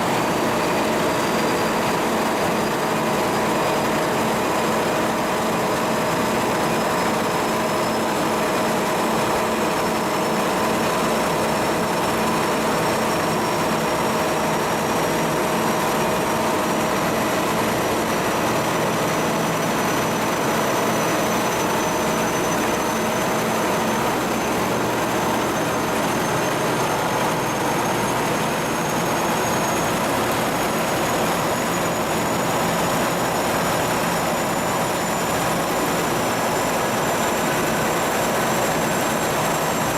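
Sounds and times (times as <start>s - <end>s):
high mechanical whine: 0.0s - 39.9s
ship diesel machinery drone: 0.0s - 39.9s.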